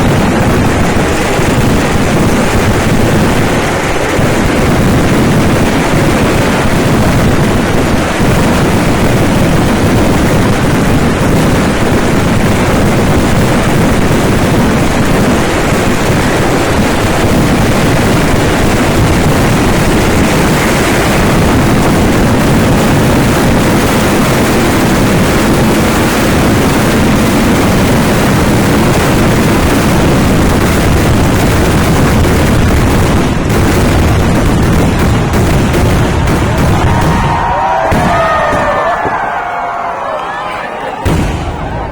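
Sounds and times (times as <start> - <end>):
firecrackers crackling and booming: 0.0 - 41.9.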